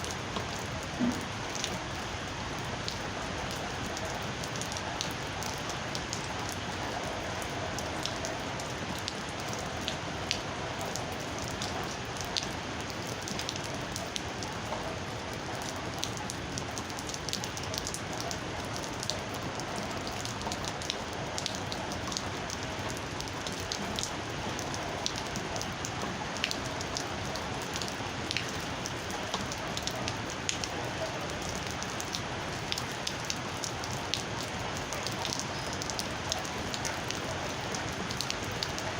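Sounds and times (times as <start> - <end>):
raindrops striking close by: 0.0 - 38.9
steady rain falling: 0.0 - 38.9.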